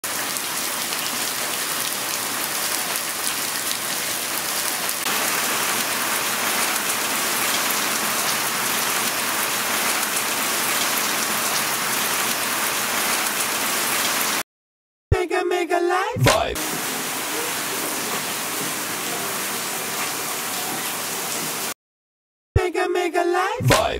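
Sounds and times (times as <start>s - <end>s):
heavy rain on stone and grass: 0.0s - 14.4s, 16.6s - 21.8s.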